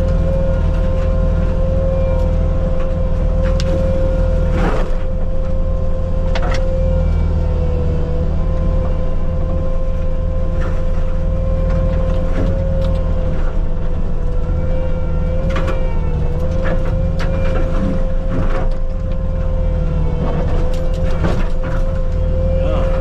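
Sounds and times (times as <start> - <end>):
disc mulcher whine: 0.0 - 23.0
loader diesel engine drone: 0.0 - 23.0.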